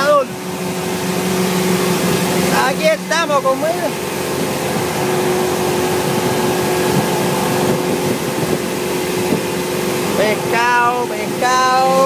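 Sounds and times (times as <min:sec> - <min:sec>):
boat machinery humming: 0:00.0 - 0:12.0
constant rushing noise: 0:00.0 - 0:12.0.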